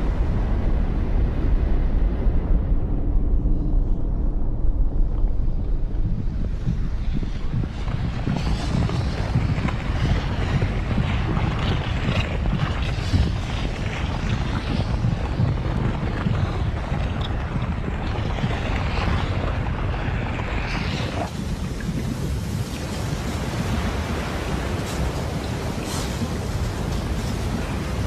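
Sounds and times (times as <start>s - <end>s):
lava rumbling: 0.0s - 28.0s
crackling hiss: 5.1s - 28.0s.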